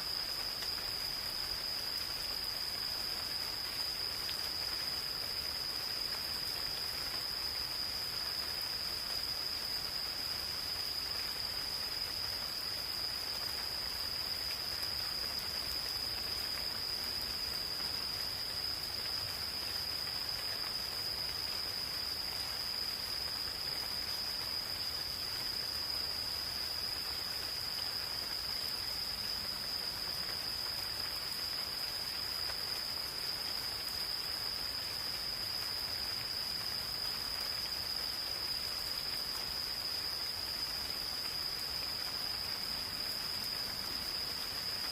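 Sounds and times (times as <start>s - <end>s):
gentle rain: 0.0s - 44.9s
insects trilling: 0.0s - 44.9s.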